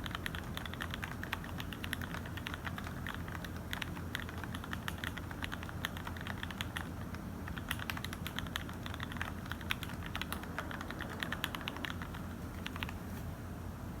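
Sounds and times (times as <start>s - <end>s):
mechanical keyboard typing clacks: 0.0s - 13.0s
steady low hum: 0.0s - 14.0s.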